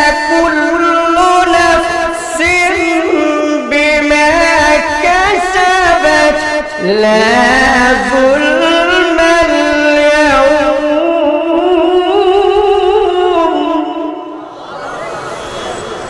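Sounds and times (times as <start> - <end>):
man chanting melodic recitation: 0.0 - 14.4.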